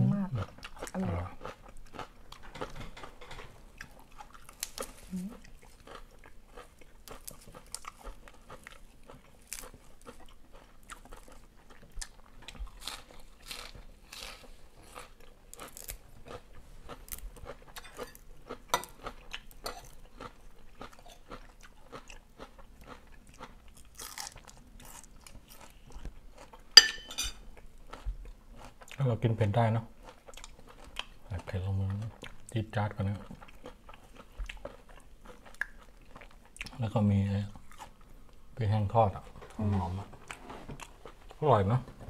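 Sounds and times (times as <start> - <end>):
chewing crunches and mouth clicks: 0.3 - 26.8, 27.4 - 29.1, 30.0 - 38.5, 40.2 - 41.4.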